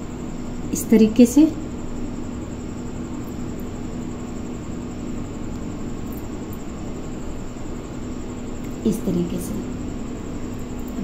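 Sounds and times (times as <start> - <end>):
constant hiss: 0.0 - 11.0
steady background hum: 0.0 - 11.0.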